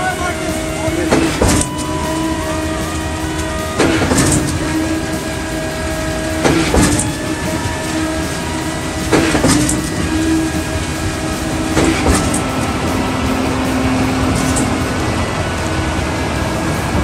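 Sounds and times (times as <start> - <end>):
truck engine humming: 0.0 - 17.0
wet concrete sliding down chute: 0.0 - 17.0.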